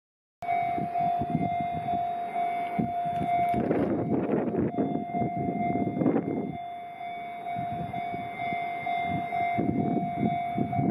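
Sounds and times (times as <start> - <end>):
level crossing warning bell: 0.4 - 10.9
low rumble: 0.4 - 10.9.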